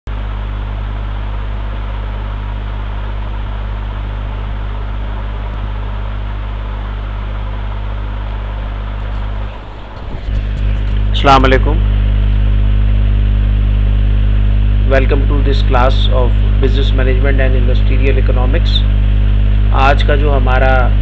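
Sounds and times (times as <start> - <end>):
low electrical hum: 0.1 - 21.0.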